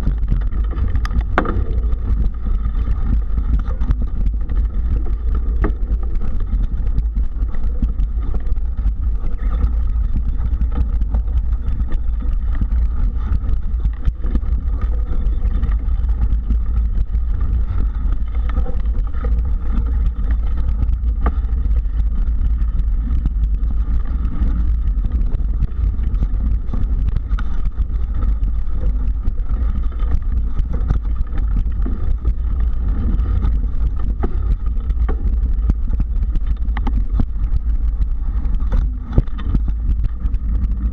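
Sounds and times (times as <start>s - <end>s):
bike rattles and knocks: 0.0s - 40.9s
wind rumble on microphone: 0.0s - 40.9s.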